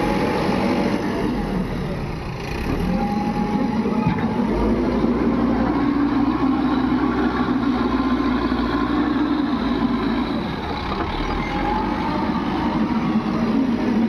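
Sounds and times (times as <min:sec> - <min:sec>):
heavy diesel engines running: 0:00.0 - 0:14.0.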